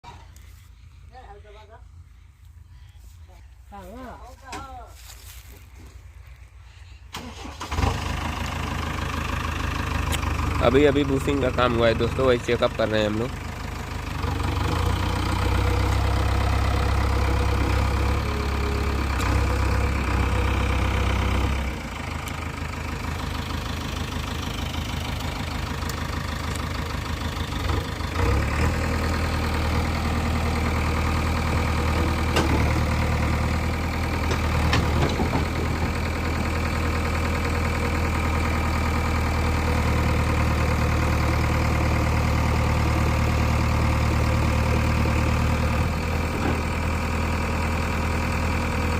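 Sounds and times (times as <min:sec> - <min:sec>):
diesel engine running: 0:05.0 - 0:48.9.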